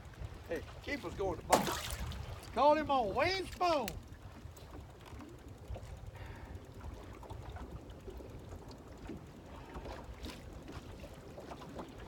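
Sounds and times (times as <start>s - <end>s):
wind buffeting microphone: 0.0s - 11.3s
waves lapping against boat hull: 0.0s - 12.0s.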